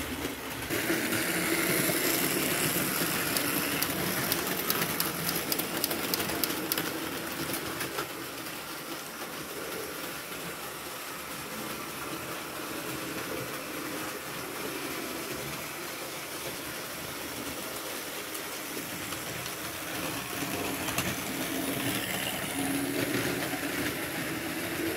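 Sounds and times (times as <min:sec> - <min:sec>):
model train wheels clattering: 0:00.0 - 0:10.6, 0:12.0 - 0:24.9.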